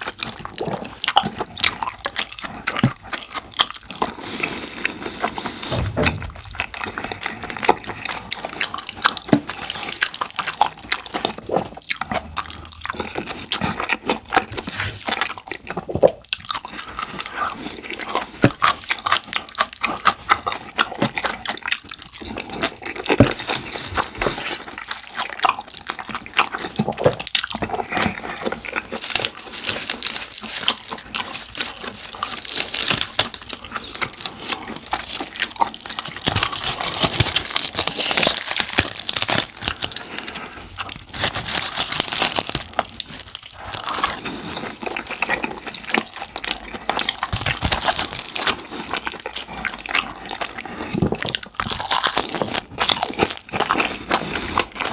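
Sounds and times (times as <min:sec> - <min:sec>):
wet sticky chewing: 0:00.0 - 0:54.9.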